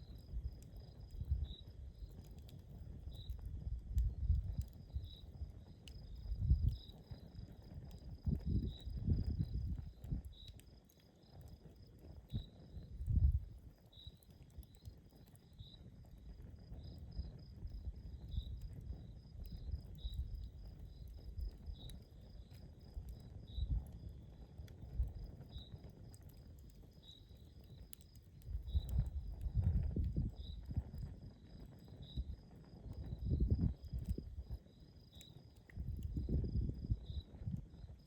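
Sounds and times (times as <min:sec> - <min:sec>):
campfire crackling and popping: 0:00.0 - 0:38.0
low fire rumble: 0:00.0 - 0:38.0.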